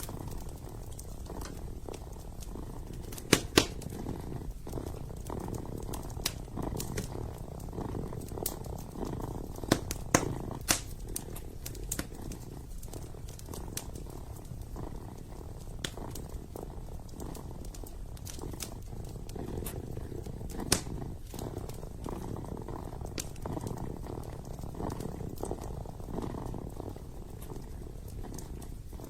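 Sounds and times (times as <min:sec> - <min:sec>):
kitten purring: 0:00.0 - 0:29.0
wood fire crackling and popping: 0:00.0 - 0:29.0.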